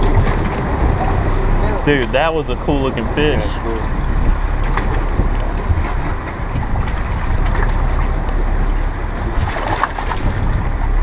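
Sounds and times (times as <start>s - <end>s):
low engine rumble: 0.0s - 11.0s
wind and water rushing along hull: 0.0s - 11.0s.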